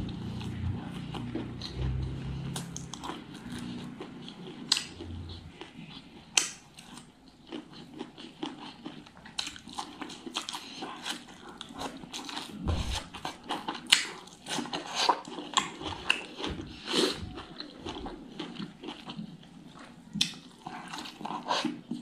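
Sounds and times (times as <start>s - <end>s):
close chewing with mouth smacks: 0.0s - 22.0s.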